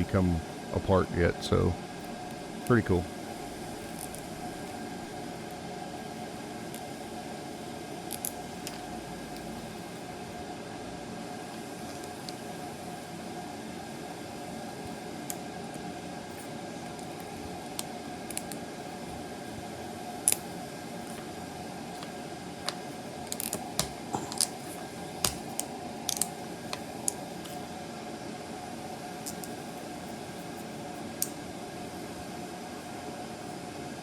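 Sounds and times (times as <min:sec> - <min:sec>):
room noise hum: 0:00.0 - 0:34.0.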